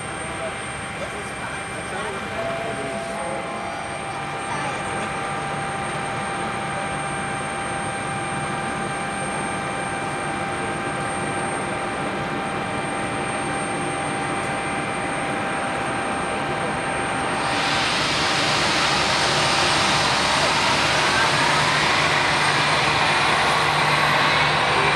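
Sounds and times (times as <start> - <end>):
jet engines whining: 0.0 - 24.9.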